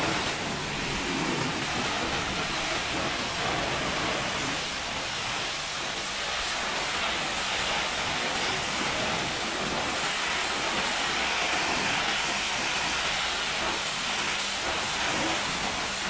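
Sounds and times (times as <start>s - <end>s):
pressure washer jet spraying: 0.0s - 16.0s.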